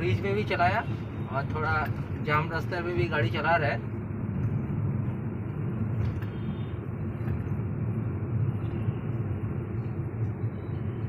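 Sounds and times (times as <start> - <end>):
car engine rumble: 0.0 - 11.0
road noise inside car: 0.0 - 11.0.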